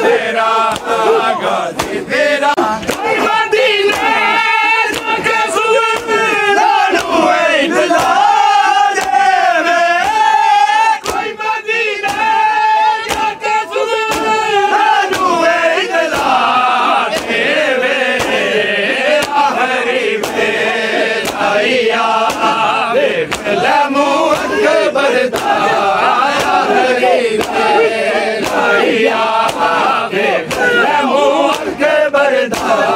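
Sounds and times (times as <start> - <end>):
hands slapping chests: 0.0 - 31.9, 32.5 - 32.9
men chanting a lament: 0.0 - 32.9.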